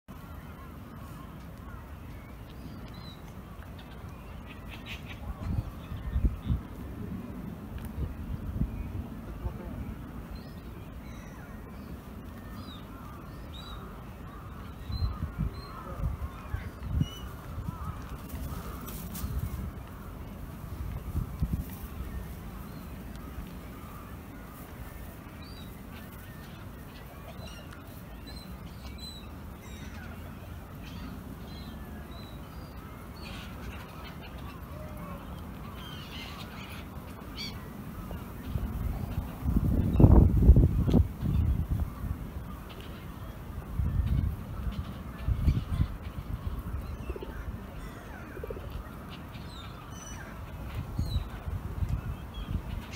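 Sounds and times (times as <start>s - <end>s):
wild birds calling: 0.1s - 52.9s.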